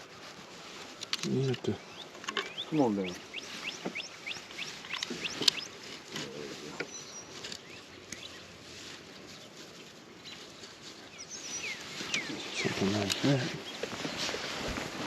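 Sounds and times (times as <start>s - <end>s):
wild birds chirping: 0.0s - 15.0s.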